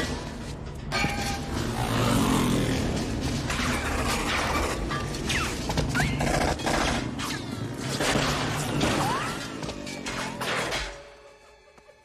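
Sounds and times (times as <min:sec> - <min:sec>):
film score music: 0:00.0 - 0:12.0.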